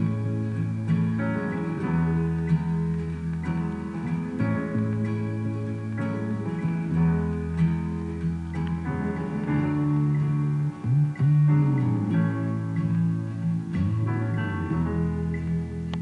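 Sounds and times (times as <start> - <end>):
guitar plucked and strummed: 0.0 - 16.0.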